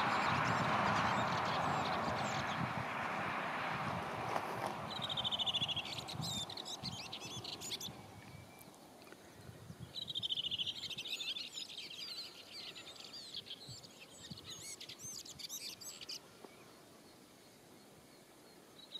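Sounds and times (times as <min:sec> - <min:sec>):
birds trilling and chirping: 0:00.0 - 0:18.9.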